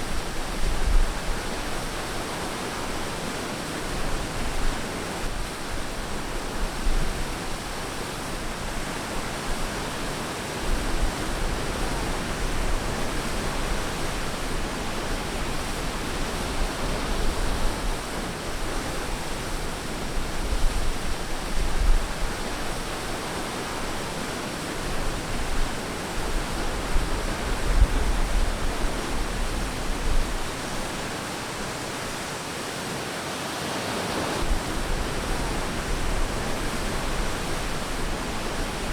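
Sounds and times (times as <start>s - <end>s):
low rumbles of surf: 0.0s - 38.9s
ocean surf on a beach: 0.0s - 38.9s.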